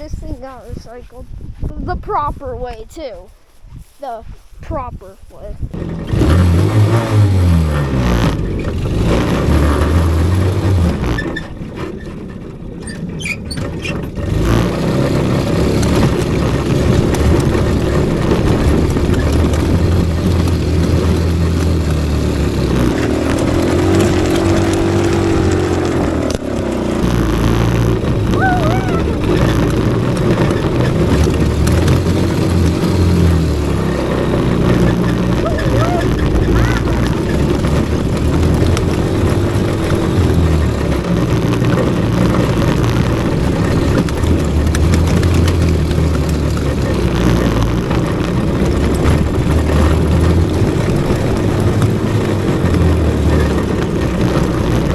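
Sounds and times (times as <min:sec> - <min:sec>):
small petrol engine revving: 0:05.6 - 0:54.9.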